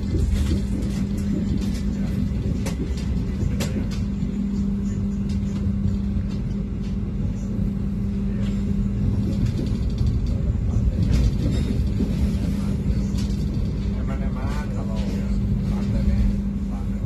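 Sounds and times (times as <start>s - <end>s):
steady hum: 0.0s - 17.0s
train wheels rumbling: 0.0s - 17.0s.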